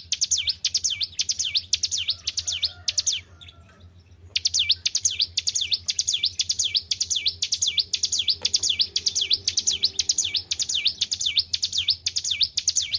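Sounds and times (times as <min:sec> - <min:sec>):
songbird singing swooping notes: 0:00.0 - 0:12.9.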